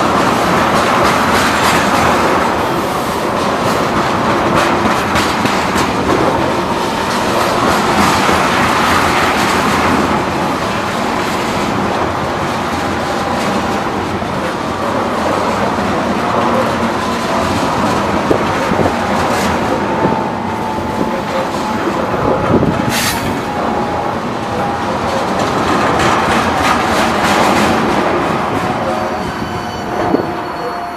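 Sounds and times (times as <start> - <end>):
wheels clicking over track: 0.0 - 29.3
train rumbling on rails: 0.0 - 30.9.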